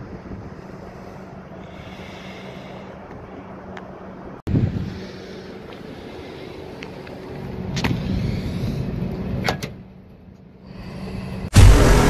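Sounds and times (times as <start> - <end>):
low mechanical hum: 0.0 - 11.8.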